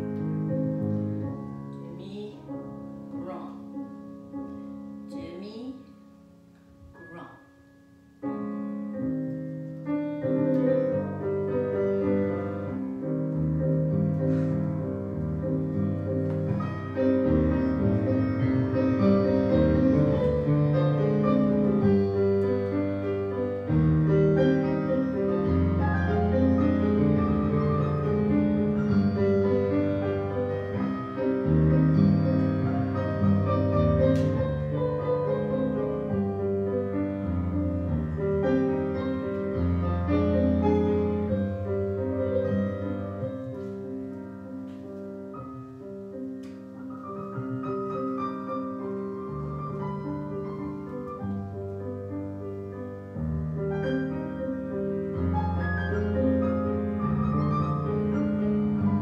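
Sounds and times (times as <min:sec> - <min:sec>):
solo piano chords: 0:00.0 - 0:59.0.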